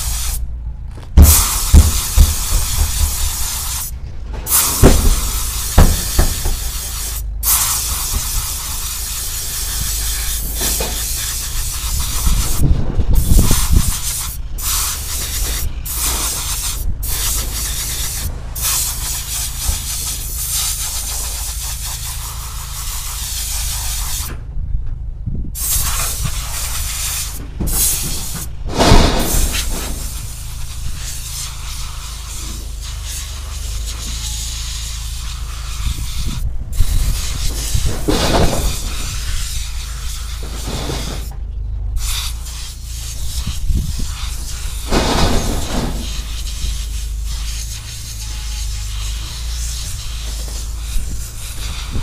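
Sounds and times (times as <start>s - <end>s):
compressed air hissing: 0.0s - 24.4s, 25.6s - 52.0s
low steady rumble: 0.0s - 52.0s.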